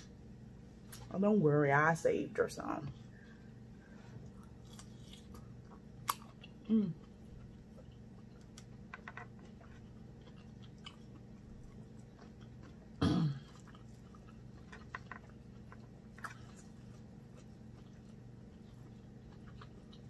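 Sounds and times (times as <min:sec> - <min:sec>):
low steady hum: 0:00.0 - 0:20.0
faint chewing: 0:02.9 - 0:20.0.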